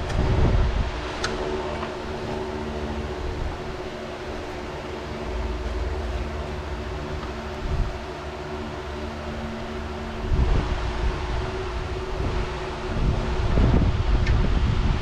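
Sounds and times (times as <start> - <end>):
mechanical hum with held tones: 0.0 - 15.0
wind on microphone: 0.0 - 15.0.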